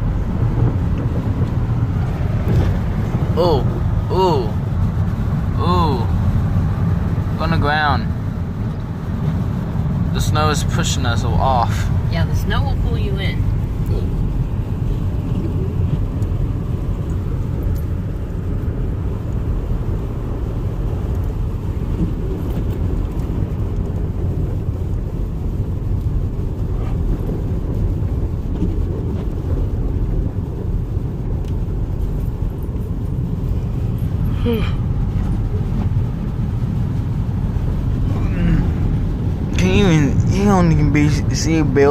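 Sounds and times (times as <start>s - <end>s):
car cabin road rumble: 0.0s - 41.9s.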